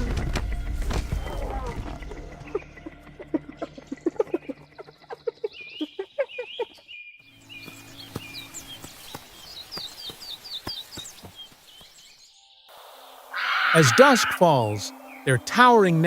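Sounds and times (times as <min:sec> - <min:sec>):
birds chirping: 0:02.0 - 0:16.0.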